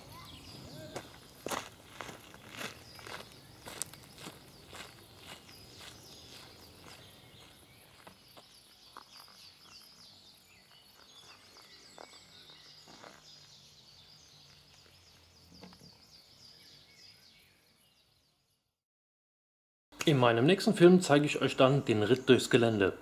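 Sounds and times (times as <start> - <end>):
birds chirping: 0.0 - 18.7, 20.0 - 23.0.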